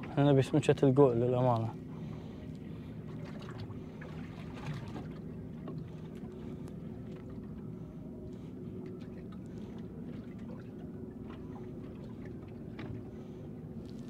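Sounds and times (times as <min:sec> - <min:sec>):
boat engine humming: 0:00.0 - 0:14.0
water splashing against hull: 0:00.0 - 0:14.0.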